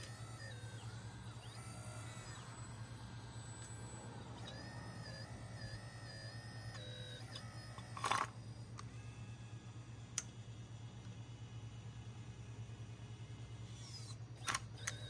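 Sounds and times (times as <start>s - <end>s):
hydraulic pump humming and whining: 0.0s - 15.0s.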